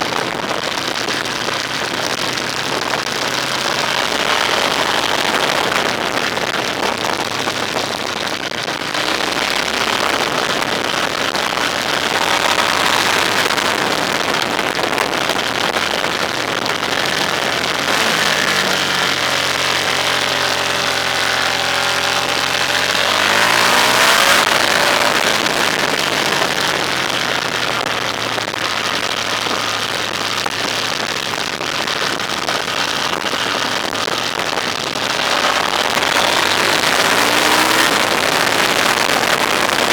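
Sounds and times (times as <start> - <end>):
vehicle engine: 0.0 - 39.9
wind and road noise: 0.0 - 39.9.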